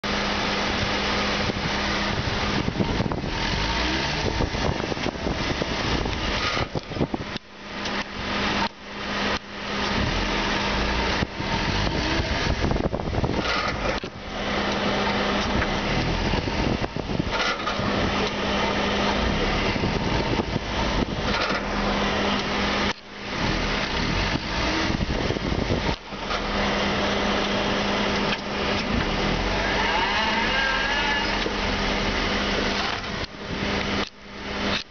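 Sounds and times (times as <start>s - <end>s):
car front end noise: 0.0s - 34.9s.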